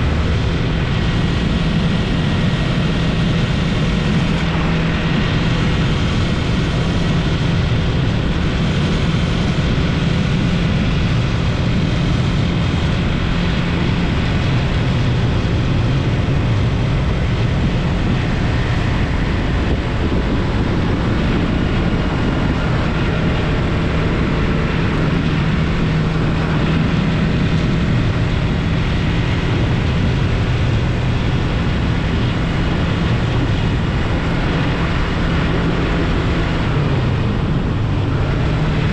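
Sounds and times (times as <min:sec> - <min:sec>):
motorcycle engine running: 0:00.0 - 0:38.9
rushing wind noise: 0:00.0 - 0:38.9.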